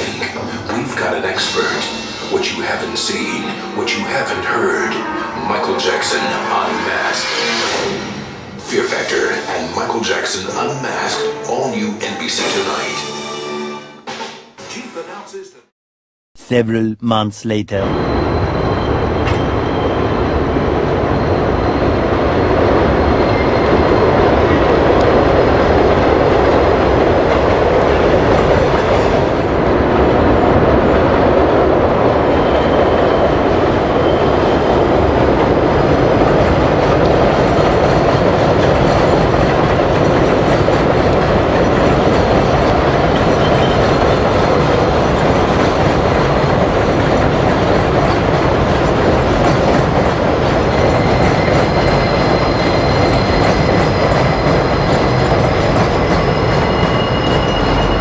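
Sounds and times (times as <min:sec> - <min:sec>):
subway train rumbling on rails: 0:00.0 - 0:14.0, 0:17.8 - 0:58.0.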